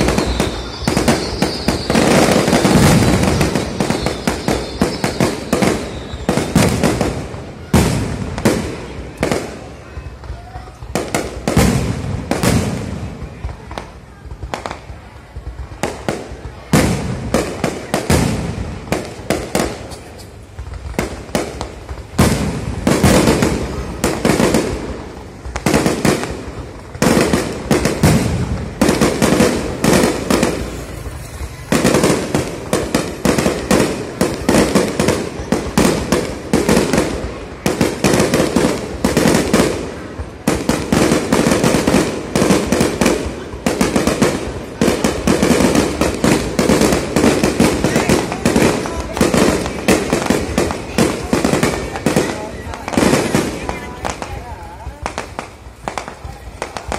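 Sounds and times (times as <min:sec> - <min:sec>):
fireworks bangs and crackle: 0:00.0 - 0:56.9.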